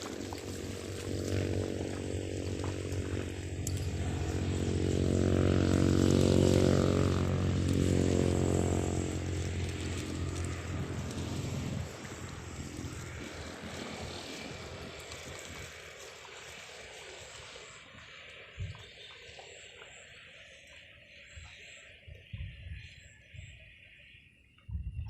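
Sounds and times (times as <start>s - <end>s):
small engine passing by: 0.0s - 22.0s.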